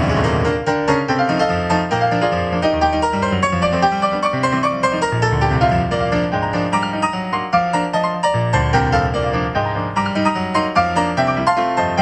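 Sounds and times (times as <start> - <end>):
fast ragtime piano: 0.0 - 12.0.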